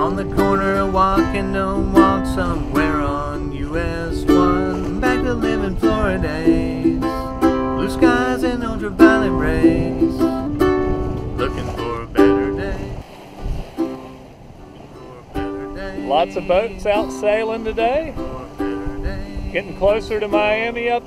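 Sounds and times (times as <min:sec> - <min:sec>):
light tune with plucked strings: 0:00.0 - 0:21.0.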